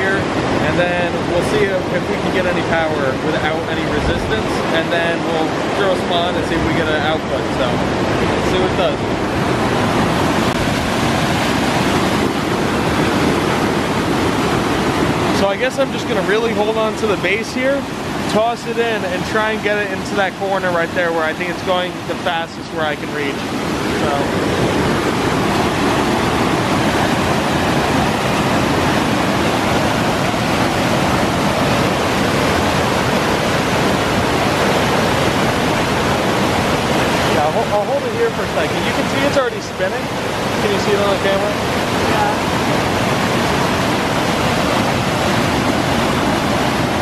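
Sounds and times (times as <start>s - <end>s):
river rushing over rapids: 0.0s - 47.0s.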